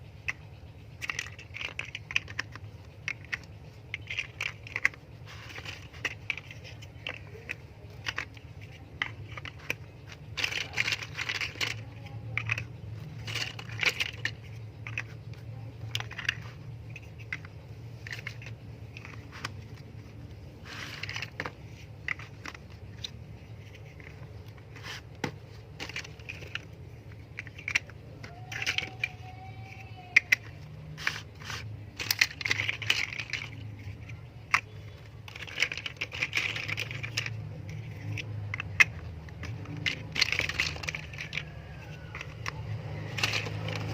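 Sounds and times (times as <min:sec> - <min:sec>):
plastic bricks clicking and rattling: 0:00.0 - 0:43.9.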